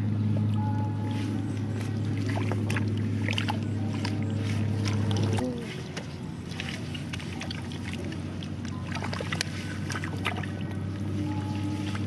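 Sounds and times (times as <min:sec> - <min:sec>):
low hum: 0:00.0 - 0:12.0
muddy water sloshing: 0:00.0 - 0:12.0
sharp splashes: 0:01.2 - 0:10.8.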